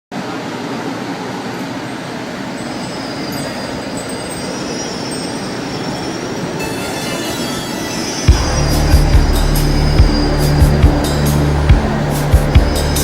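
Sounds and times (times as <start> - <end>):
train rumbling on track: 0.2 - 13.0.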